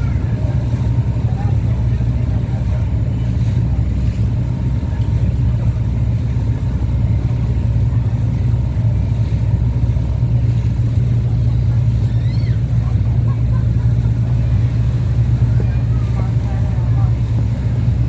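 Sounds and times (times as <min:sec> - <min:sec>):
boat engine droning: 0:00.0 - 0:18.0
hull rushing through water: 0:00.0 - 0:18.0.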